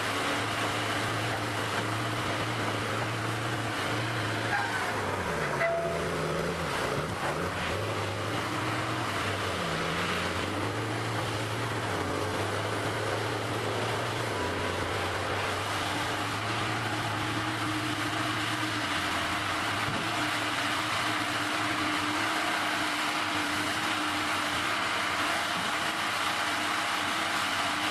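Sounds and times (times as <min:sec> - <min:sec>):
machine engine running: 0:00.0 - 0:27.9.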